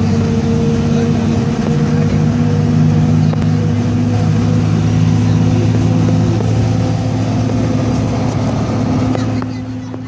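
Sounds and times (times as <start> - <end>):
road noise rushing: 0.0 - 10.0
vehicle engine hum: 0.0 - 10.0.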